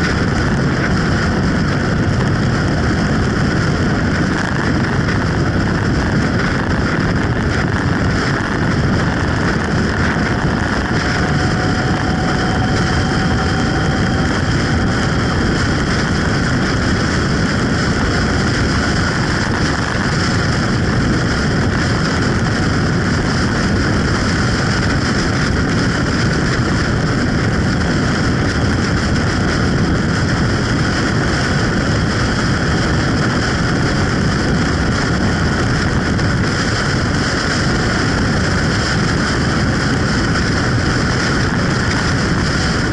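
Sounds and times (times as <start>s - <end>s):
motorcycle road noise: 0.0s - 42.9s
wind rush: 0.0s - 42.9s.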